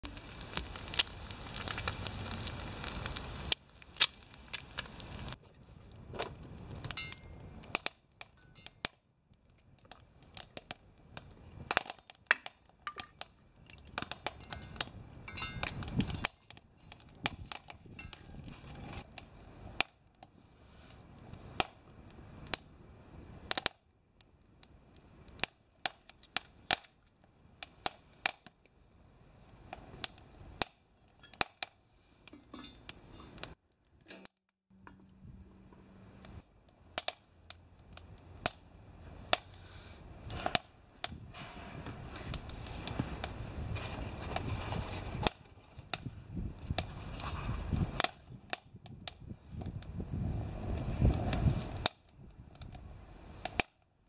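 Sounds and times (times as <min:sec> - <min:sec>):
wood fire crackling and popping: 0:00.0 - 0:34.6, 0:36.1 - 0:54.0.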